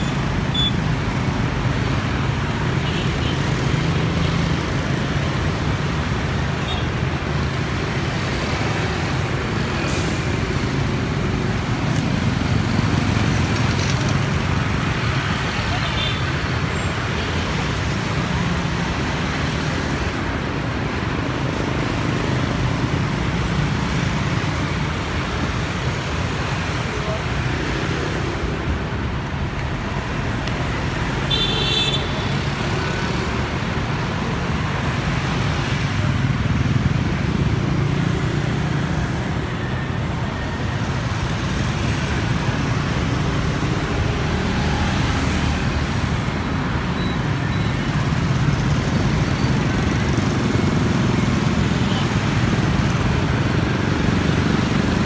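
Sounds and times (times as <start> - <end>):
traffic engine and tyre rumble: 0.0 - 55.0.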